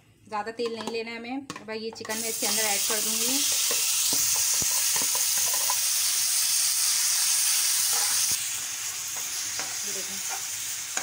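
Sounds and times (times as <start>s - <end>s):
chicken sizzling in hot oil: 2.1s - 11.0s.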